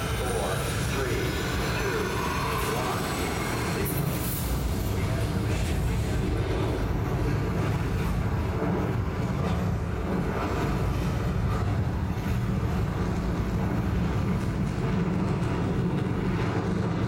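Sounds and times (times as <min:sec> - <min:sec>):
rocket liftoff rumble over loudspeakers: 0:00.0 - 0:17.0.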